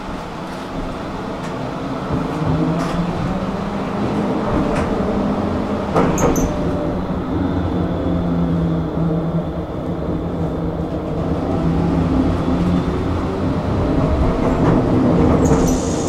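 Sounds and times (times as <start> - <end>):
tram drive hum: 0.0 - 16.0
wheel and rail rumble: 0.0 - 16.0.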